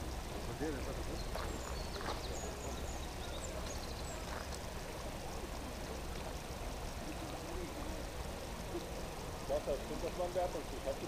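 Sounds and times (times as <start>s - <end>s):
faint bird chirps: 0.0s - 10.7s.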